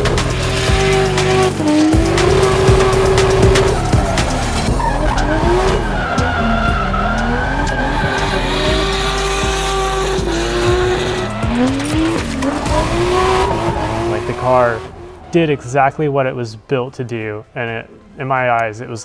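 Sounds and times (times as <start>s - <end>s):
car engine revving: 0.0s - 16.2s
tyres squealing and skidding: 0.0s - 16.6s.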